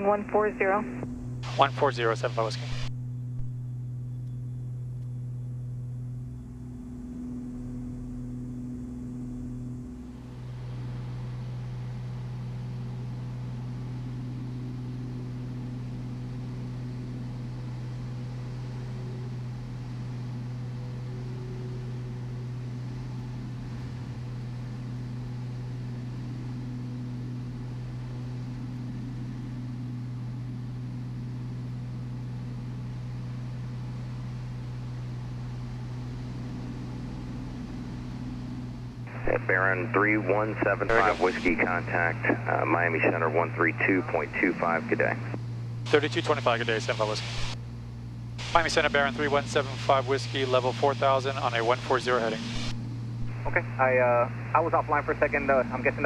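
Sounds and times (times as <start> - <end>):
aircraft engines droning: 0.0 - 56.0.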